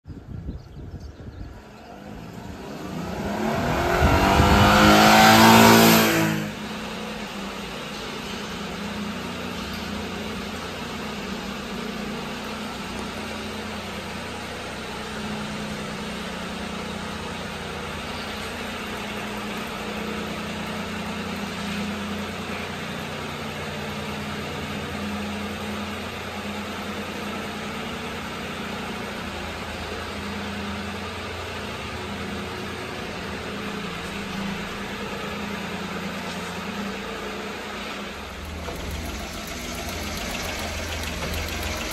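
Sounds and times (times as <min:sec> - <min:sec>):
small truck engine idling: 0:06.5 - 0:41.9.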